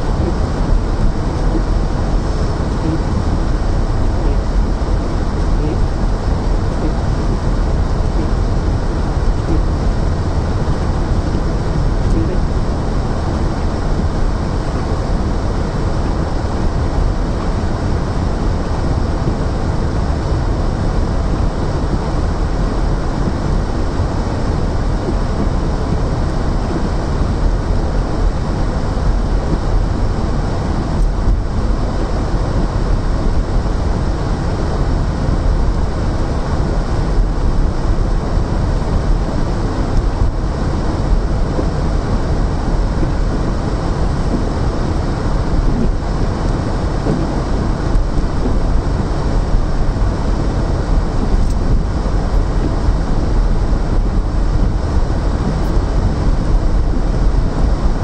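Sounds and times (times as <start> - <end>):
car cabin road rumble: 0.0 - 58.0.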